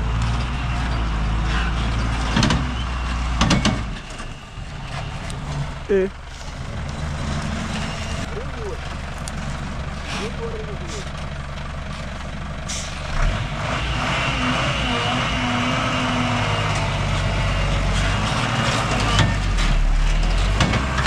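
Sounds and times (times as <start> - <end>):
heavy vehicle engine humming: 0.0 - 21.0.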